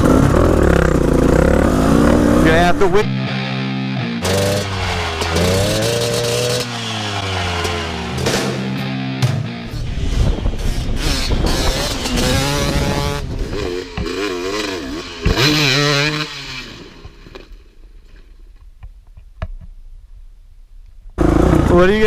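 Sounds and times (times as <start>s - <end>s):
dirt bike engine revving: 0.0s - 3.5s, 4.2s - 17.7s, 21.2s - 22.0s.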